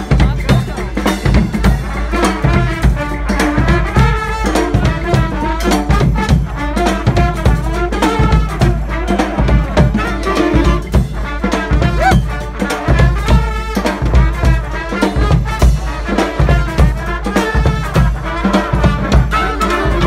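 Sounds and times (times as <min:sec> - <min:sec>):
driving drum beat: 0:00.0 - 0:20.0
horns playing melody: 0:00.0 - 0:20.0.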